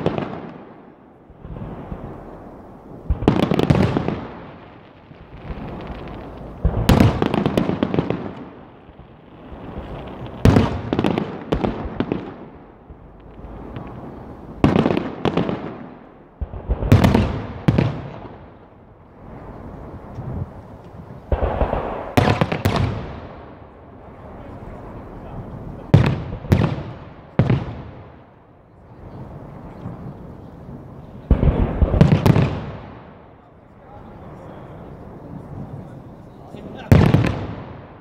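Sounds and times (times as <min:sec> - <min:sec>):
firework crackling: 0:00.0 - 0:38.0.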